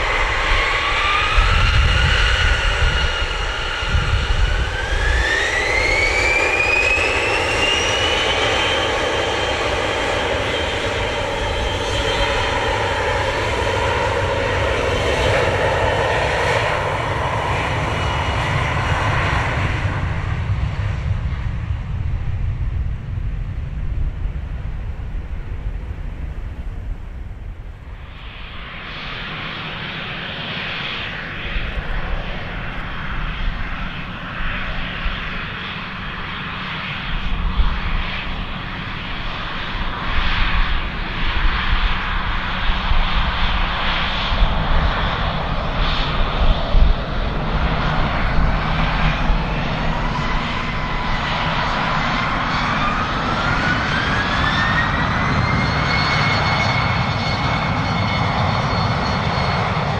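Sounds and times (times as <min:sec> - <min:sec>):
jet engine whine rising: 0:00.0 - 0:59.9
jet engines rumbling: 0:00.0 - 0:59.9.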